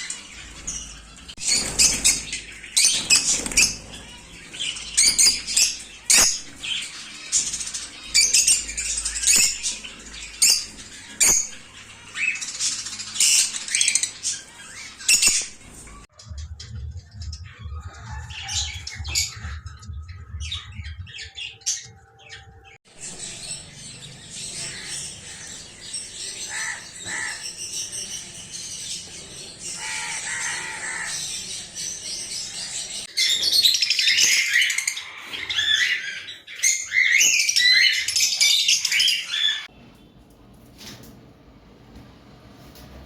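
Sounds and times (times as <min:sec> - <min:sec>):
parrots chirping and squawking: 0:00.0 - 0:39.7.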